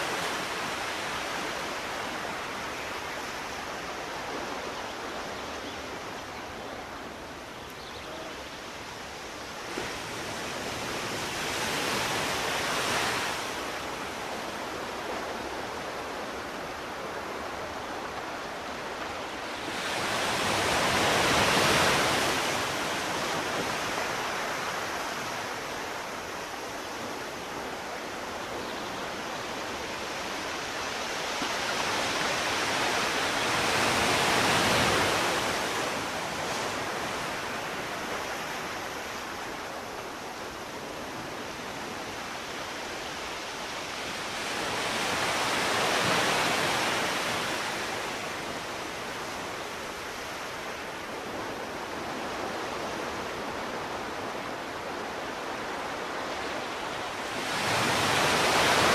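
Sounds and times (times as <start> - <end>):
sea waves breaking on shore: 0.0 - 58.9.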